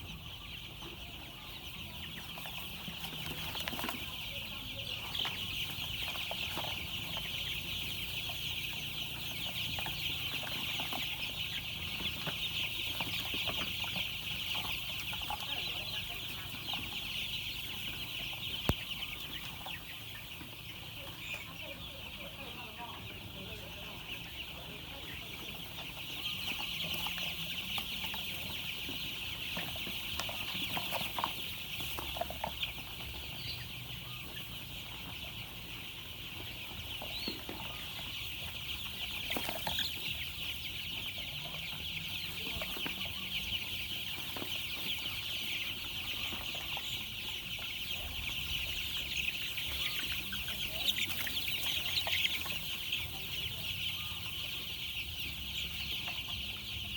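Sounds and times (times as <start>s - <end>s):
baby chicks peeping: 0.0s - 56.9s.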